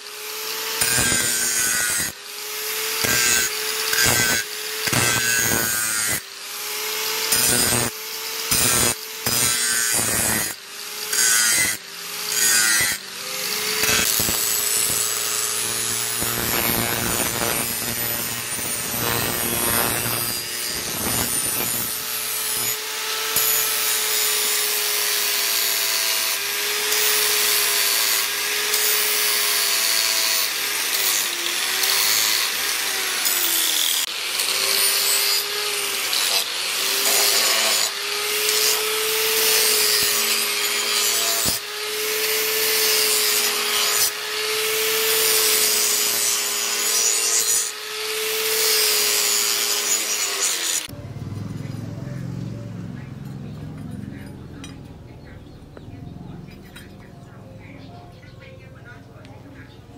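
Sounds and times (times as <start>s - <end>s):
angle grinder motor whine: 0.0s - 54.4s.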